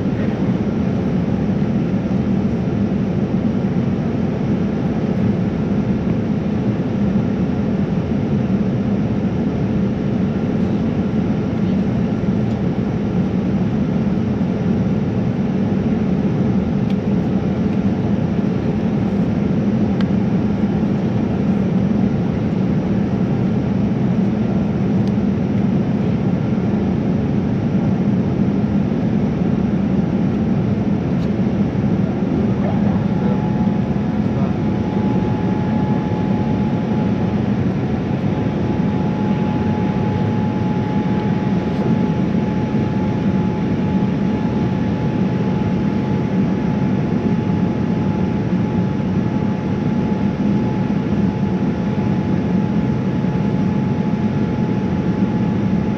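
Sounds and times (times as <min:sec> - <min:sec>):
airliner cabin engine rumble: 0:00.0 - 0:55.9
thin steady whine: 0:00.0 - 0:55.9.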